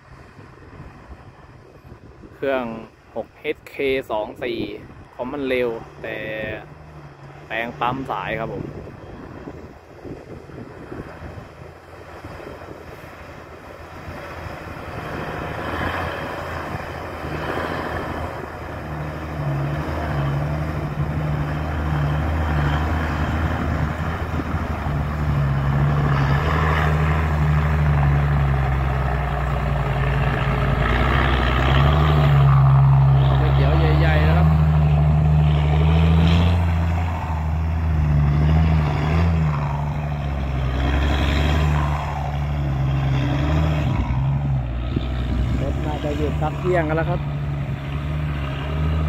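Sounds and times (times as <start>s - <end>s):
diesel truck engine: 0.0s - 49.0s.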